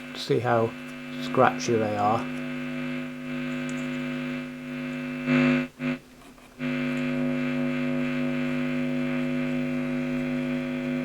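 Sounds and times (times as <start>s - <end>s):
amplifier buzz and hum: 0.0s - 11.0s.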